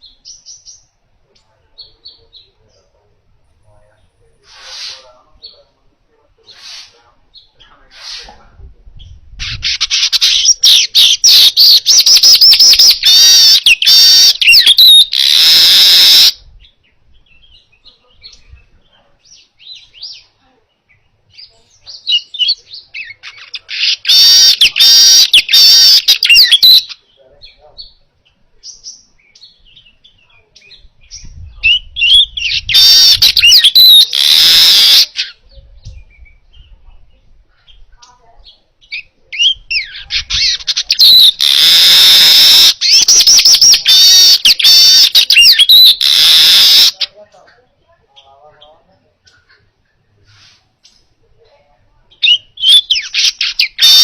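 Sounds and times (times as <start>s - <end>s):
bird chattering song: 0.0s - 3.1s, 3.7s - 5.8s, 6.4s - 51.1s, 52.1s - 54.0s.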